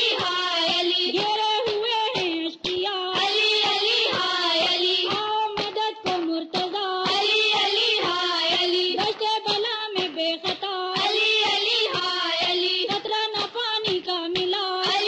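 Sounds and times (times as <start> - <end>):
thumping beat: 0.0 - 15.0.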